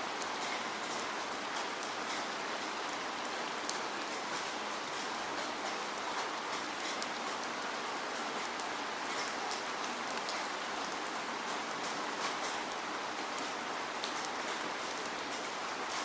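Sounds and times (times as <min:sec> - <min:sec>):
steady rain hiss: 0:00.0 - 0:16.0
raindrops ticking: 0:00.1 - 0:16.0.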